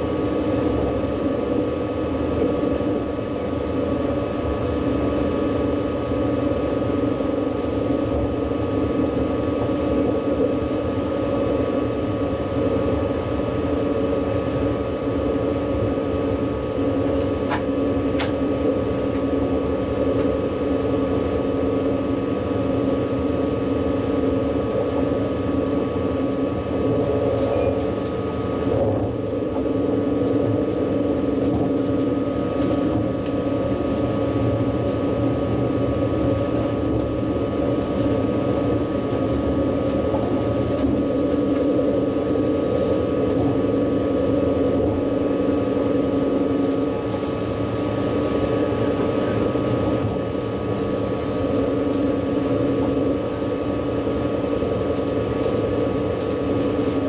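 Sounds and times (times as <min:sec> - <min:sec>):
electric train running noise: 0:00.0 - 0:57.0.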